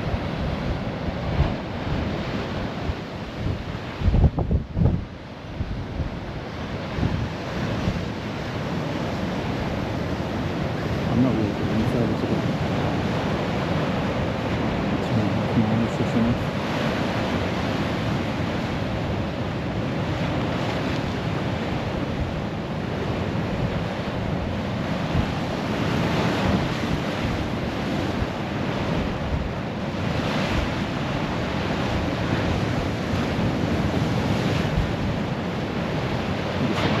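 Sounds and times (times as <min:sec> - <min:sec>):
waves breaking on sand beach: 0:00.0 - 0:37.0
wind buffeting microphone: 0:00.0 - 0:37.0.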